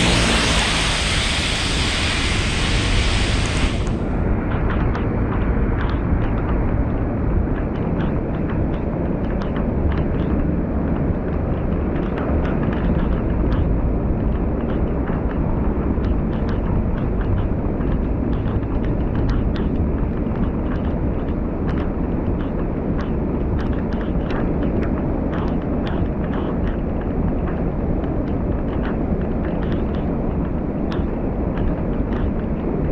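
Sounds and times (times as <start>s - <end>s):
road wind and rain rumble: 0.0s - 32.9s.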